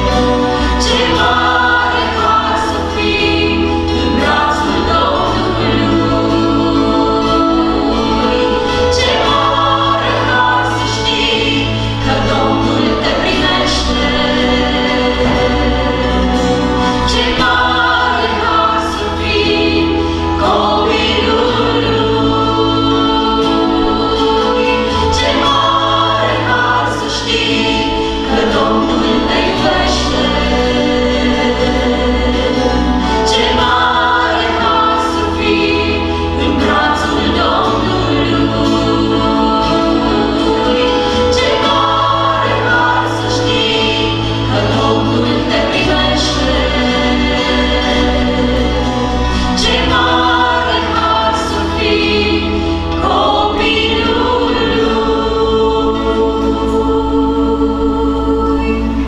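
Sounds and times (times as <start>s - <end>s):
acoustic guitar: 0.0s - 59.0s
electric bass: 0.0s - 59.0s
keyboard: 0.0s - 59.0s
women singing in harmony: 0.0s - 59.0s.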